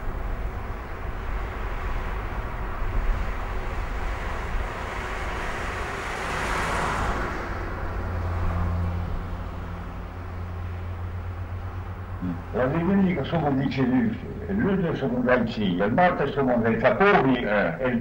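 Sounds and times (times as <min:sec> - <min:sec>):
vehicle passing by: 0:00.0 - 0:16.4
traffic rumble: 0:00.0 - 0:18.0.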